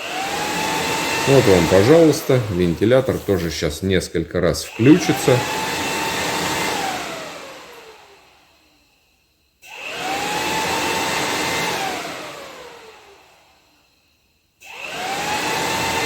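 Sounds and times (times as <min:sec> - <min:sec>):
electric cooling fan whirring: 0:00.0 - 0:08.9, 0:09.5 - 0:13.8, 0:14.5 - 0:16.0
fan winding down with falling whine: 0:00.0 - 0:16.0.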